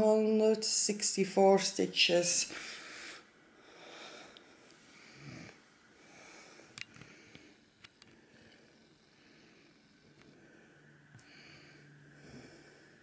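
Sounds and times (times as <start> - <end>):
faint breathing: 2.5 - 13.0.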